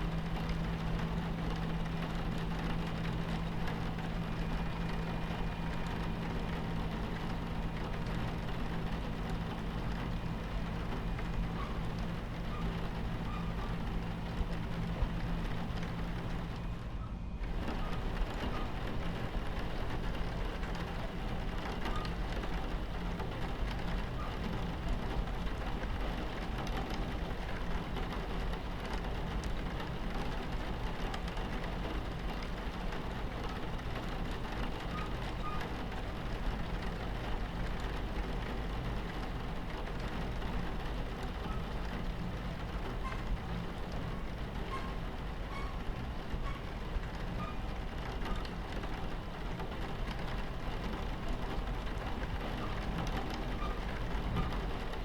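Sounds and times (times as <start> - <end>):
rain on a train window: 0.0 - 55.0
train rumbling on tracks: 0.0 - 55.0.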